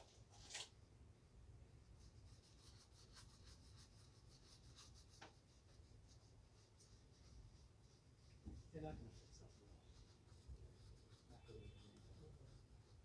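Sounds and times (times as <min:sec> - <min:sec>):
brush strokes on leather shoes: 0:02.0 - 0:13.0.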